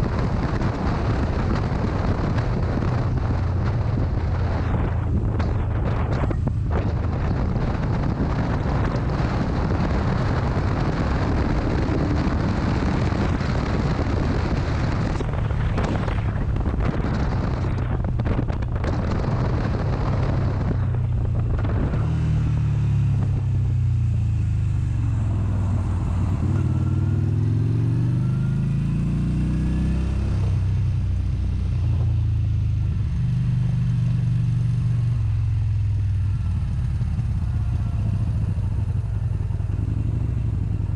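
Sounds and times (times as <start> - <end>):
motorcycle engine: 0.0 - 40.9
wind rushing on microphone: 0.0 - 40.9.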